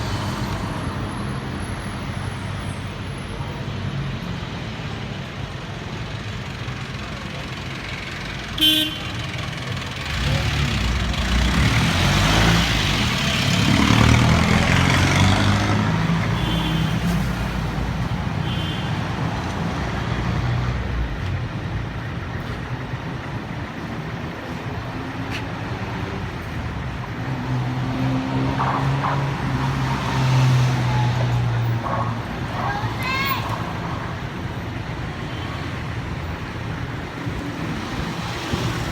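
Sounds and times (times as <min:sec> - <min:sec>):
vehicle engines passing: 0:00.0 - 0:38.9.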